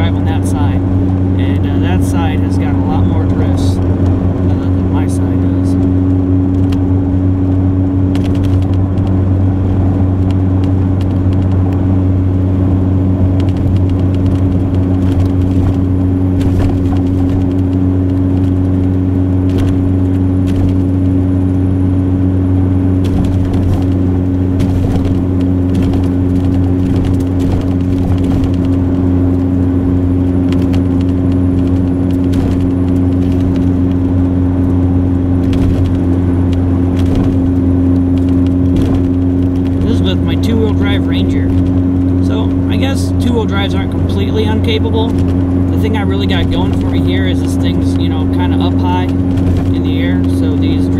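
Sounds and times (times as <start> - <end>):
pickup truck engine drone: 0.0 - 50.9.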